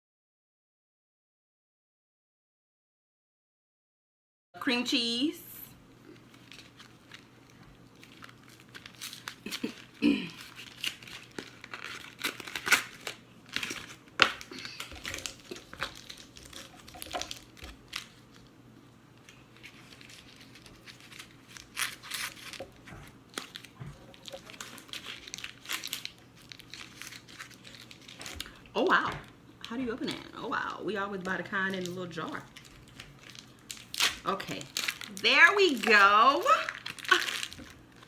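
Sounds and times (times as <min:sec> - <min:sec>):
packaging crinkling and tearing: 0:06.0 - 0:18.5, 0:19.2 - 0:38.0.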